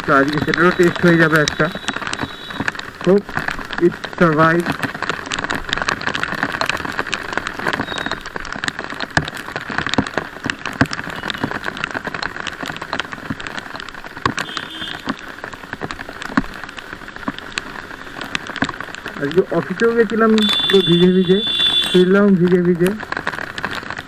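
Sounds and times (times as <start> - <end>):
heavy rain falling: 0.0 - 24.0
raindrops tapping close by: 0.0 - 24.0.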